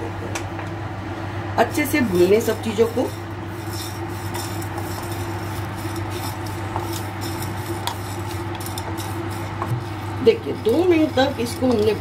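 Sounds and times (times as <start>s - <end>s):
steady low hum: 0.0s - 12.0s
wooden spatula scraping seeds in pan: 2.0s - 12.0s.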